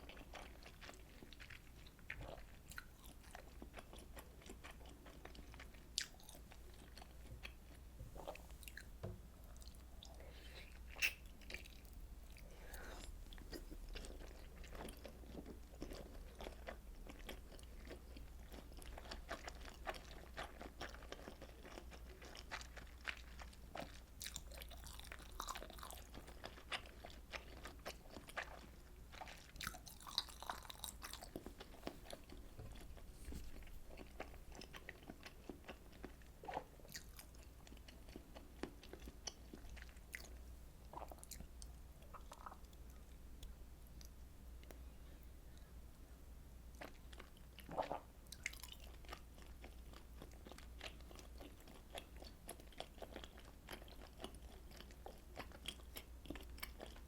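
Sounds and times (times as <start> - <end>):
person chewing wetly: 0.0 - 8.9, 9.5 - 44.8, 46.7 - 57.0.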